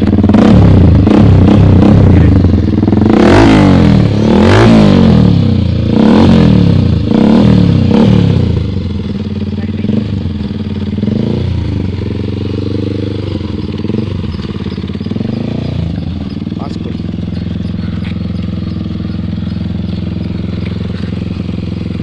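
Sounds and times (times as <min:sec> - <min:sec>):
motorcycle engine revving and idling: 0:00.0 - 0:22.0.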